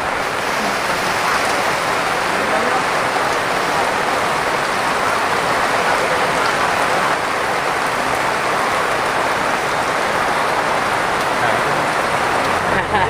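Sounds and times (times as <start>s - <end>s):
heavy rain on ground and tarpaulin: 0.0s - 13.0s.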